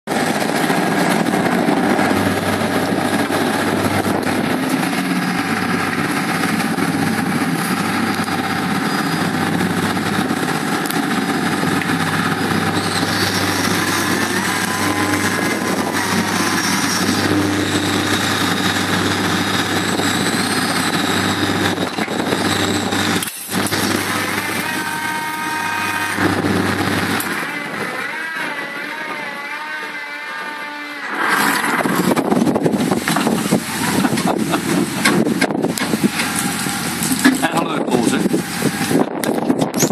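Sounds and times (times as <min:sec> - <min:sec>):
wind: 0:00.0 - 0:39.9
engine and machinery drone: 0:00.1 - 0:39.9
water noise: 0:00.1 - 0:39.9
wavering whine: 0:00.1 - 0:39.9.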